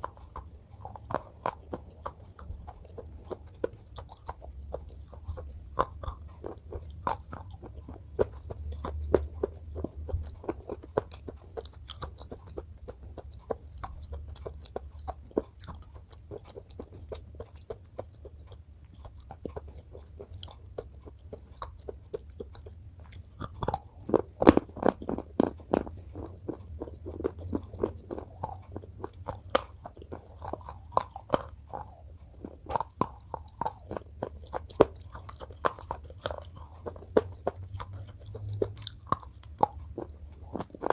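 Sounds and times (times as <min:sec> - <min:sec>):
crunching and chewing: 0:00.0 - 0:40.9.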